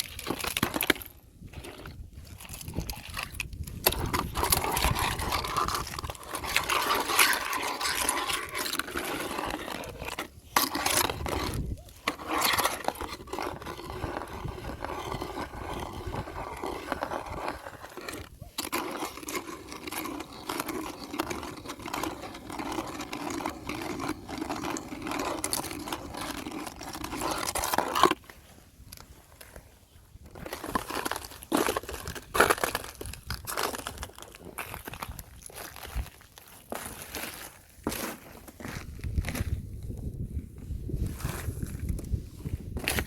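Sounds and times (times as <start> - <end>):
ice cracking loudly: 0.0 - 28.3, 30.3 - 39.5
thin ice crunching: 0.0 - 40.0, 40.8 - 43.0.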